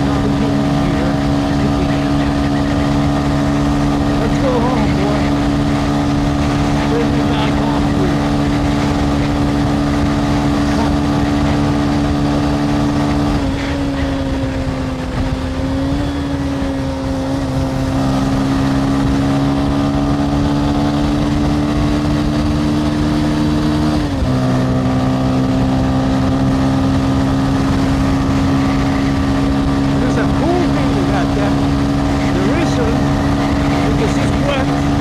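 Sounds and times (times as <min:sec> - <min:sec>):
motorcycle engine droning: 0:00.0 - 0:35.0
road noise: 0:00.0 - 0:35.0.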